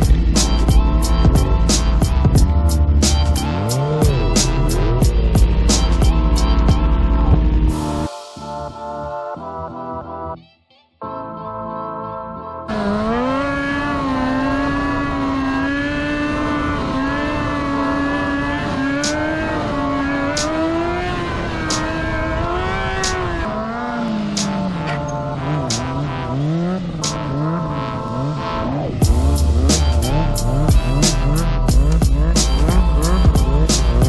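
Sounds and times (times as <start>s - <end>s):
motorcycle engine revving: 0.0s - 8.1s, 12.7s - 34.0s.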